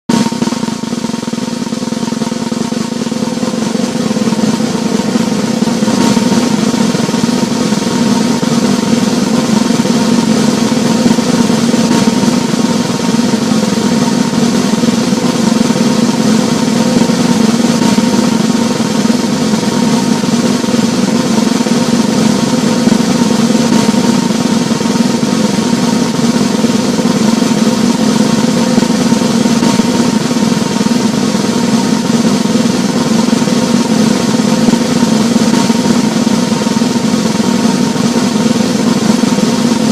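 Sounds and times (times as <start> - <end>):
snare drum roll: 0.1 - 39.9.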